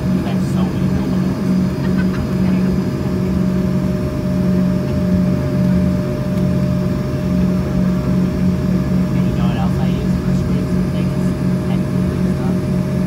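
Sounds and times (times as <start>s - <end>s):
jet engines droning: 0.0s - 13.0s
low wavering hum: 0.0s - 13.0s.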